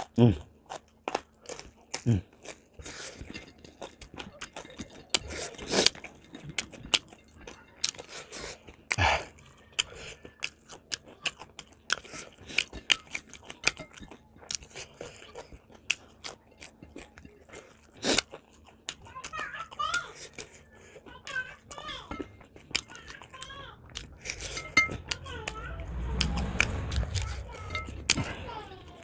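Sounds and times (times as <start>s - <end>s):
person chewing fried chicken: 0.0s - 29.0s.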